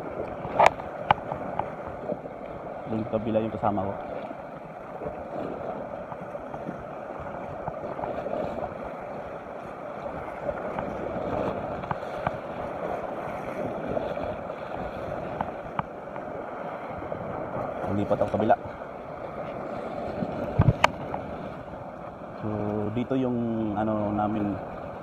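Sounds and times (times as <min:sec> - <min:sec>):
waves splashing against rocks: 0:00.0 - 0:25.0.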